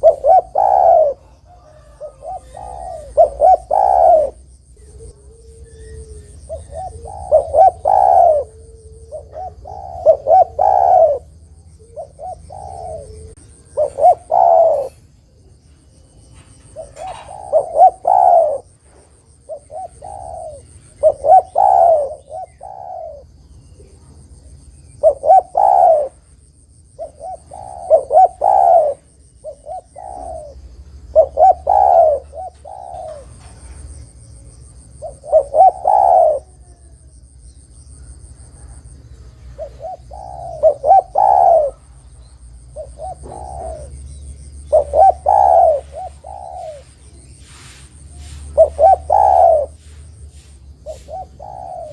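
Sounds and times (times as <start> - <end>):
dove cooing: 0.0 - 24.2, 24.8 - 26.3, 27.0 - 37.4, 38.0 - 51.9.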